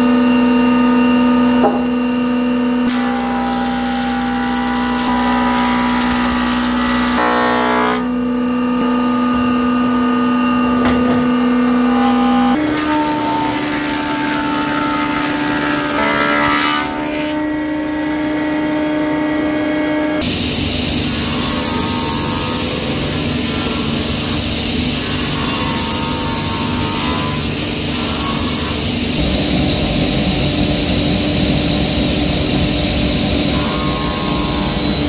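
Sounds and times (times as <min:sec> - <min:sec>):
woodworking machine motors running: 0:00.0 - 0:17.4, 0:18.0 - 0:35.0.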